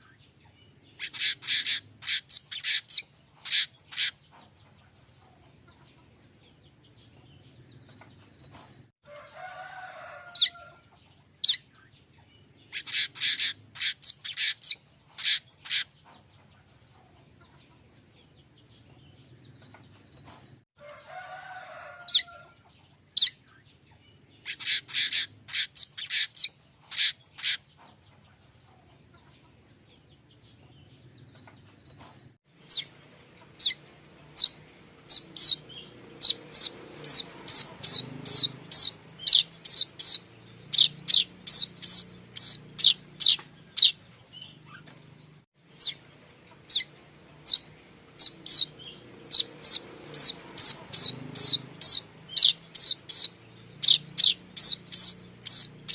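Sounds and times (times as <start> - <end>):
bird chirping: 0.0 - 8.8, 10.3 - 20.6, 22.1 - 55.9.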